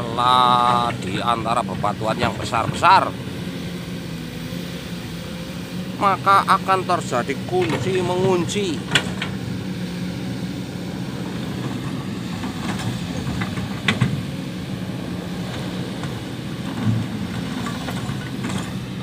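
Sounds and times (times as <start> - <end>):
heavy machinery engine humming: 0.0 - 19.0.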